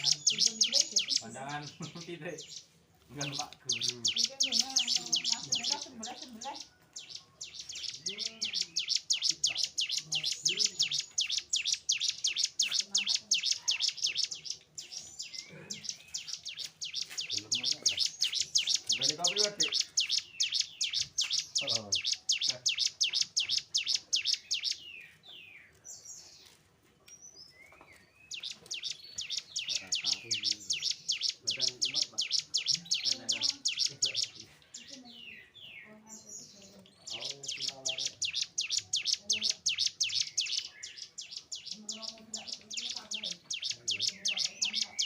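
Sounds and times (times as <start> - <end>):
bird whistling and warbling: 0.0 - 1.8, 3.3 - 25.1, 27.4 - 34.4, 37.0 - 45.0
bird singing rapid chip notes: 0.0 - 26.2, 27.2 - 45.0.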